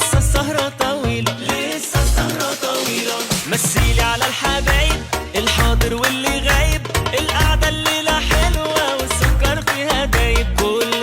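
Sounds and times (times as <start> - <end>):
pop song with heavy bass beat: 0.0 - 11.0.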